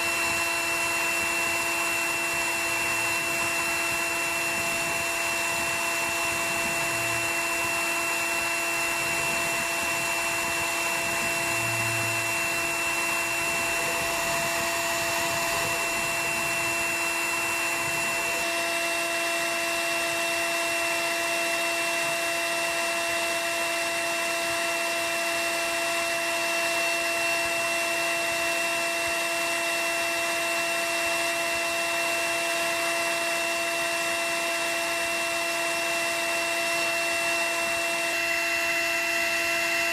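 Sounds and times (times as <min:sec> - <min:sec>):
cutter milling wood: 0:00.0 - 0:39.9
router spindle whining: 0:00.0 - 0:39.9.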